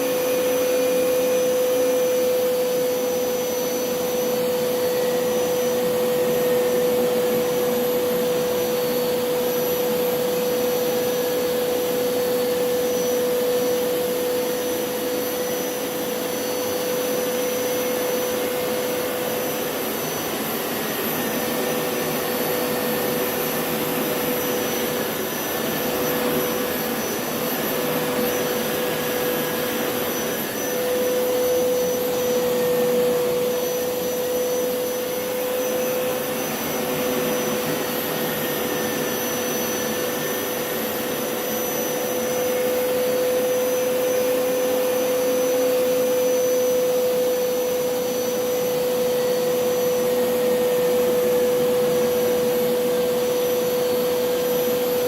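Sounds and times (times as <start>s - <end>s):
carpet cleaner motor whine: 0.0s - 55.0s.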